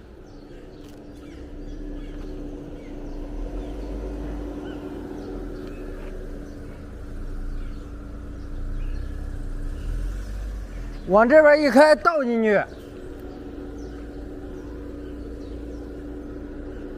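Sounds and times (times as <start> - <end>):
car engine rumbling: 0.0 - 16.9.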